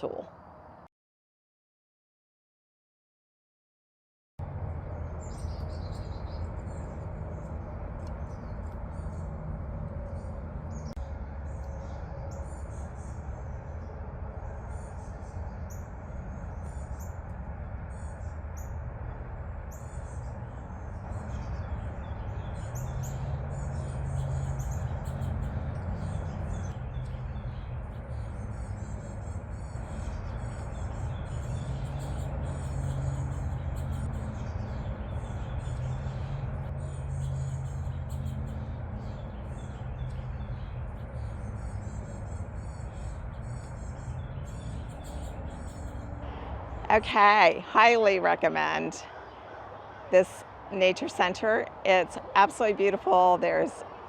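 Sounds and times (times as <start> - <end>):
birds chirping: 4.4 - 54.0
steady low rumble: 4.4 - 54.0.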